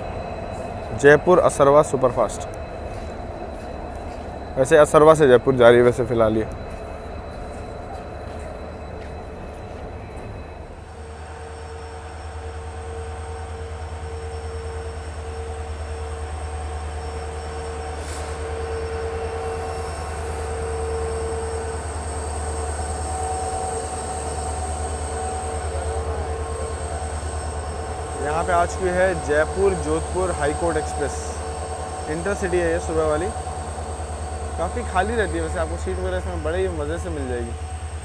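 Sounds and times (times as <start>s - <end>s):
diesel locomotive engine running: 0.0s - 38.0s
train pulling out: 0.0s - 38.0s.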